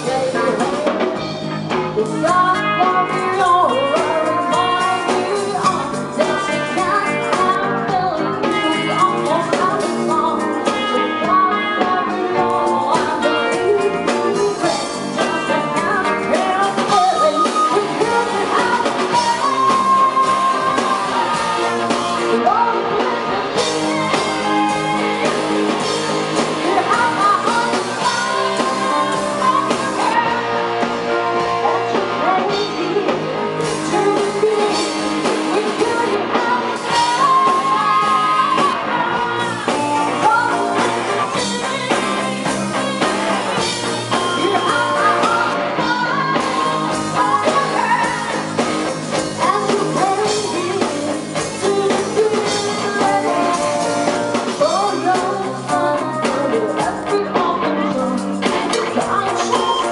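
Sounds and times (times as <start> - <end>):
drums: 0.0 - 59.9
live rock band playing: 0.0 - 59.9
woman singing into a microphone: 0.0 - 59.9.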